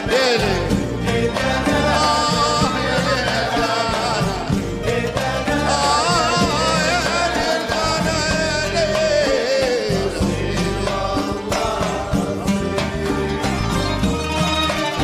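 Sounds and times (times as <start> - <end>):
person singing with an orchestra: 0.0 - 15.0.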